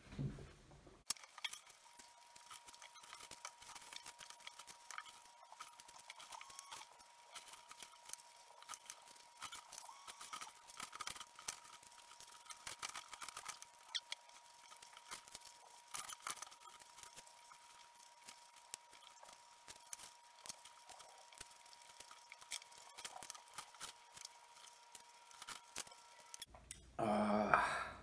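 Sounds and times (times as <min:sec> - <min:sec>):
chewing: 0:01.1 - 0:26.8
thin steady high tone: 0:01.2 - 0:26.5.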